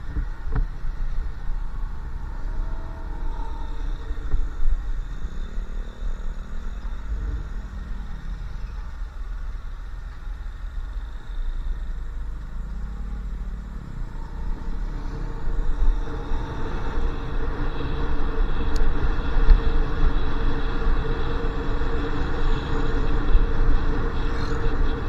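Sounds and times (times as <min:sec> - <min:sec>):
motorcycle engine running: 0:00.0 - 0:25.0
wind rumble on microphone: 0:00.0 - 0:25.0.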